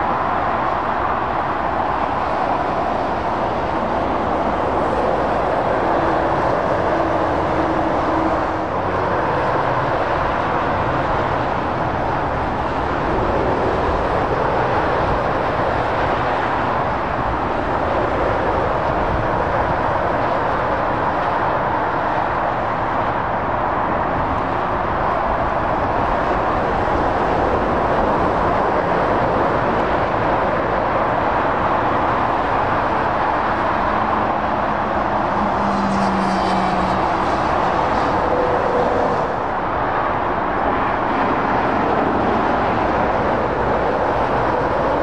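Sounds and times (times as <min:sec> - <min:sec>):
motorway traffic tyre roar: 0:00.0 - 0:45.0.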